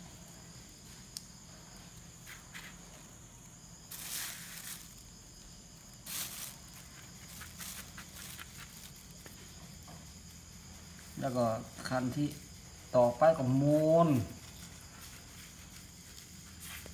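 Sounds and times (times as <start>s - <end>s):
crickets chirring: 0.0s - 16.9s
light crackles: 0.1s - 16.9s
dry tobacco rustling: 0.2s - 16.9s.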